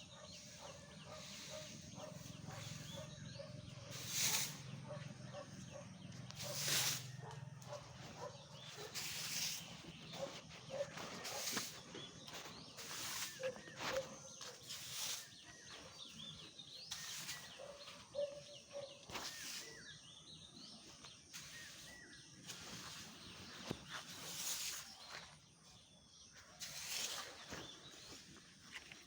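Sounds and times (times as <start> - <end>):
bird chirps: 0.0 - 28.2.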